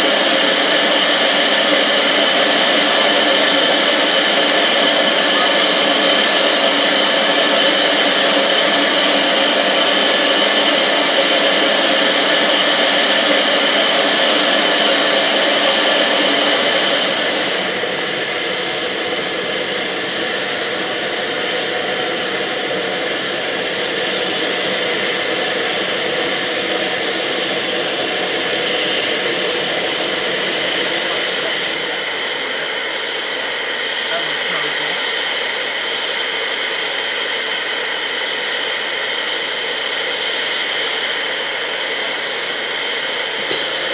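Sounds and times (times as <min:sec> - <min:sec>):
steam locomotive hissing: 0:00.0 - 0:43.9.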